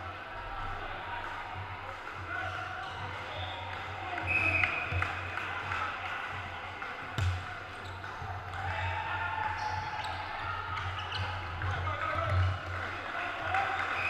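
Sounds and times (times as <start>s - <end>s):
voices in a hall: 0.0s - 14.0s.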